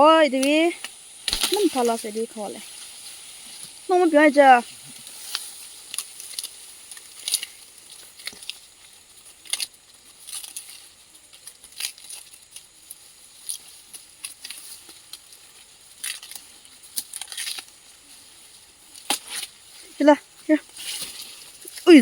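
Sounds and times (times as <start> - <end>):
dry plants rustling and snapping: 0.2 - 22.0.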